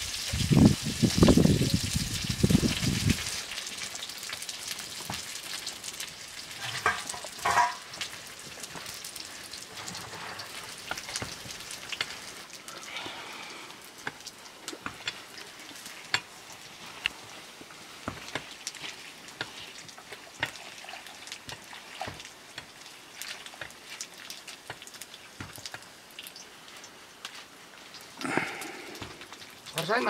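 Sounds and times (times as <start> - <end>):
soft steady hiss: 0.0 - 30.0
wood fire crackling and popping: 0.0 - 30.0.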